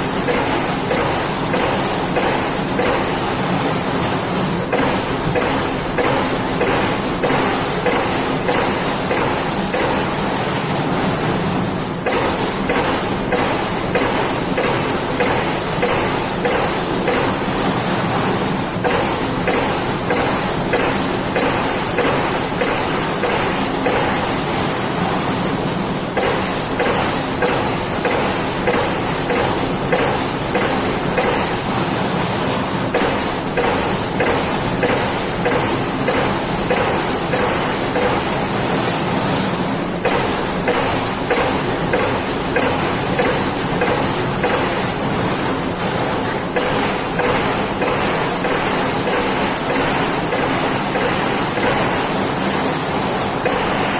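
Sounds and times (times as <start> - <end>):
punch press punching sheet metal: 0.0 - 53.9.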